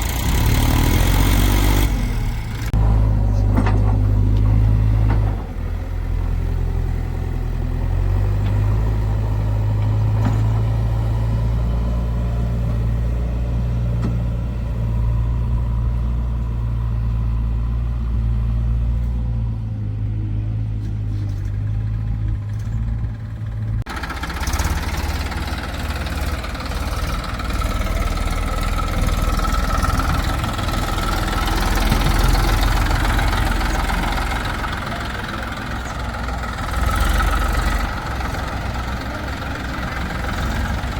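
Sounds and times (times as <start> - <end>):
diesel engine running: 0.0 - 40.9
engine whine: 0.0 - 40.9.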